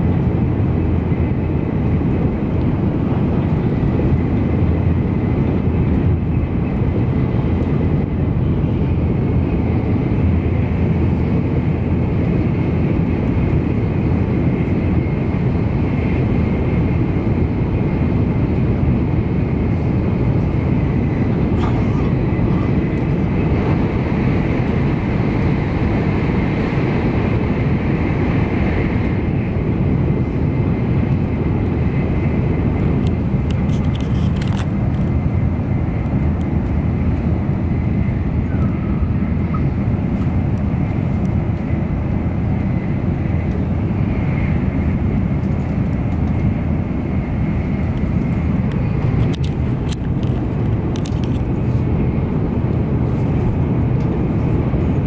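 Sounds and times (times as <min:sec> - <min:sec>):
high-speed train rumble: 0:00.0 - 0:55.0.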